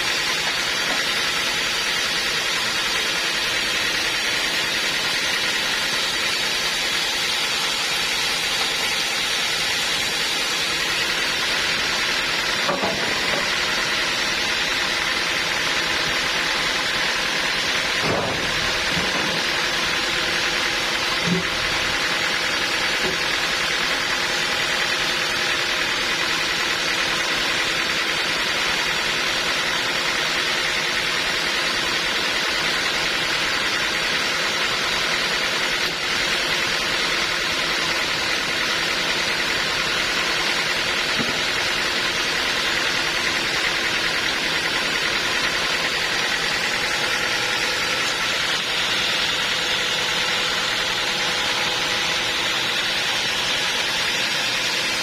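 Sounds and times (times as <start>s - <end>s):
band saw running: 0.0s - 55.0s.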